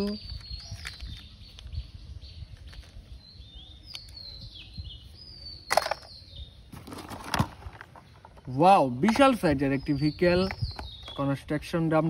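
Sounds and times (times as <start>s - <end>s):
birds chirping: 0.0s - 12.0s
outdoor background noise: 0.0s - 12.0s.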